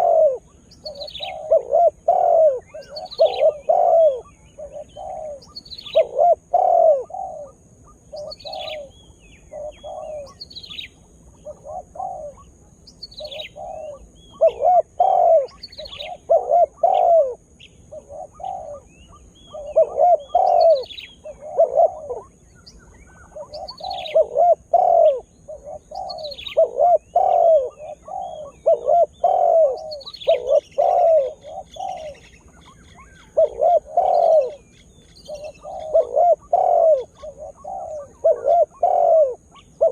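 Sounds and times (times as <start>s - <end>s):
dove cooing: 0.0s - 39.9s
small bird chirping: 0.0s - 39.9s.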